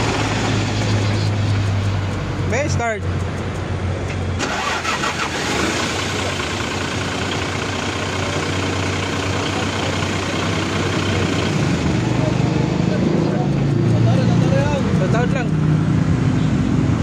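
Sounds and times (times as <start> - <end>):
diesel engine starting and running: 0.0 - 17.0.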